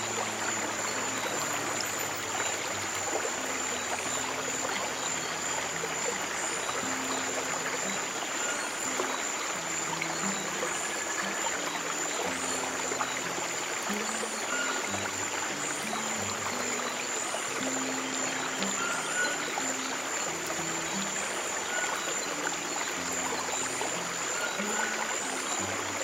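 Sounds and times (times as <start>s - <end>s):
running water stream: 0.0s - 26.0s.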